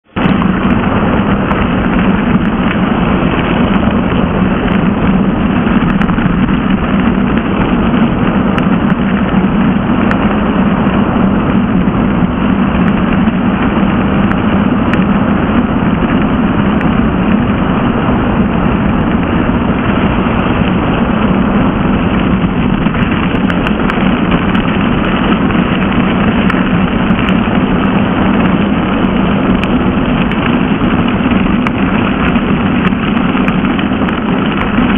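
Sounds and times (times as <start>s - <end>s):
bike tyres rolling on dirt road: 0.0s - 34.9s
wind rushing on microphone: 0.0s - 34.9s.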